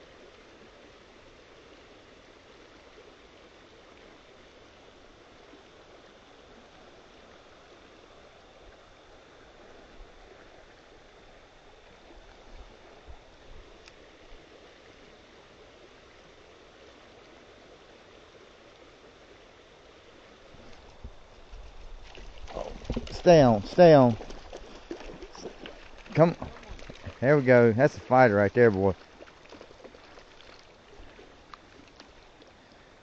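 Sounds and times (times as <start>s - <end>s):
flowing stream water: 0.0s - 33.0s.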